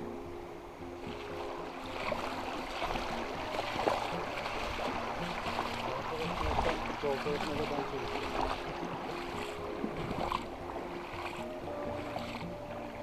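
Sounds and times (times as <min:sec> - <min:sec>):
creek water babbling over stones: 0:00.0 - 0:13.0.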